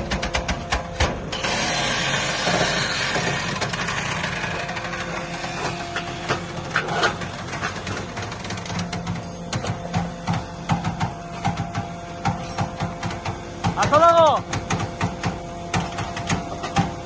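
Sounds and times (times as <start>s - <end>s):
faint machine hum: 0.0s - 17.0s.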